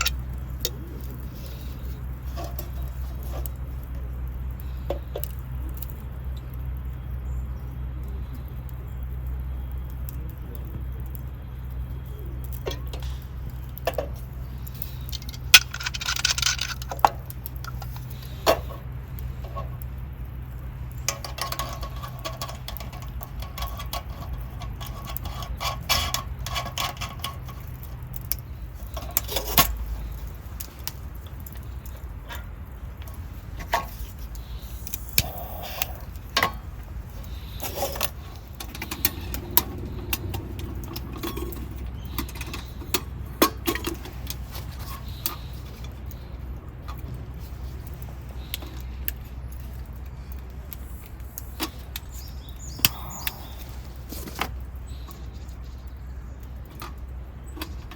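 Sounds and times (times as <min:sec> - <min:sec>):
camp cooking gear clinking: 0:00.0 - 0:04.1, 0:12.4 - 0:20.2, 0:20.8 - 0:57.9.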